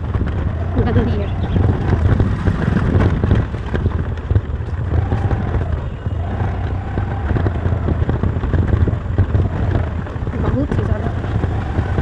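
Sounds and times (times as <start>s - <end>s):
scooter engine rumble: 0.0s - 12.0s
wind on microphone: 0.0s - 12.0s.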